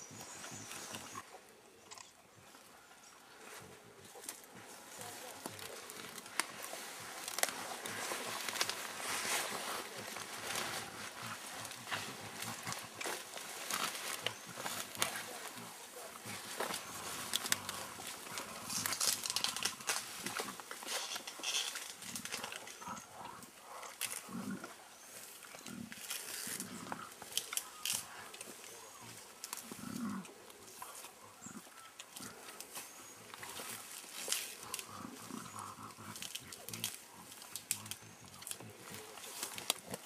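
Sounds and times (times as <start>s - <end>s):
leaves rustling: 2.4s - 40.0s
stems cracking and snapping: 4.1s - 40.0s.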